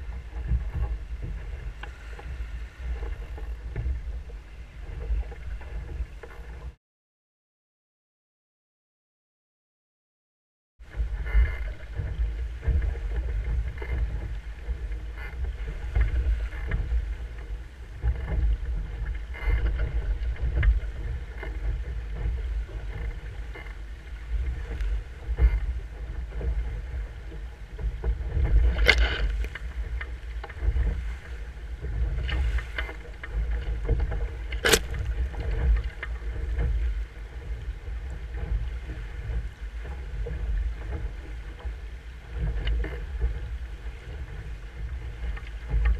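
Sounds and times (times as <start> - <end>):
water rushing along boat hull: 0.0 - 6.8, 10.8 - 45.9
water slapping against boat: 0.0 - 6.8, 10.8 - 45.9
wind buffeting microphone: 0.0 - 6.8, 10.8 - 45.9.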